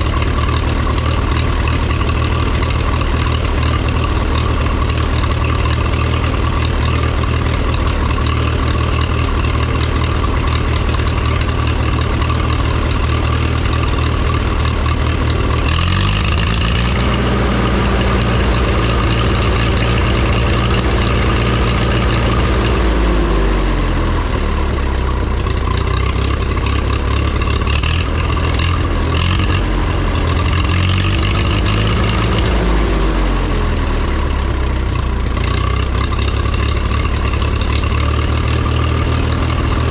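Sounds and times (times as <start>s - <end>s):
tractor engine idling and revving: 0.0s - 39.9s.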